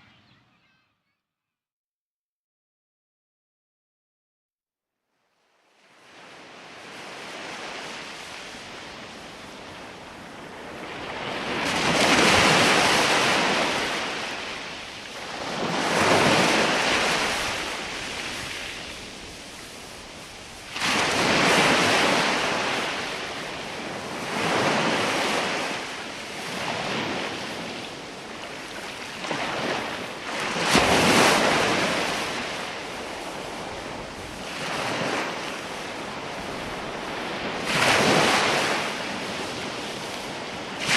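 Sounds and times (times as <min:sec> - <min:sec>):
waves breaking on shore: 0:05.7 - 0:40.9.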